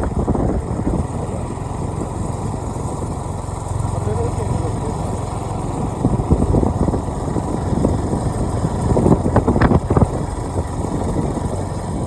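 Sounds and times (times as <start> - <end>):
moving vehicle engine: 0.0 - 12.0.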